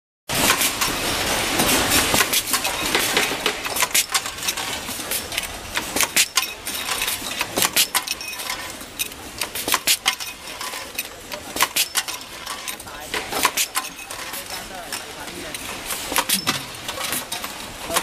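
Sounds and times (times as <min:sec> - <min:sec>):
workshop din: 0:00.3 - 0:18.0
metal parts clinking: 0:02.0 - 0:18.0.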